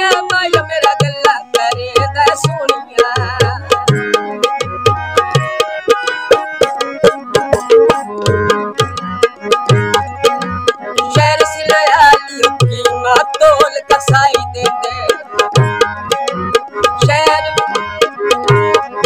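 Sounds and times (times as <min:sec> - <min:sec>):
harmonium chords: 0:00.0 - 0:19.0
tabla drumming: 0:00.0 - 0:19.0.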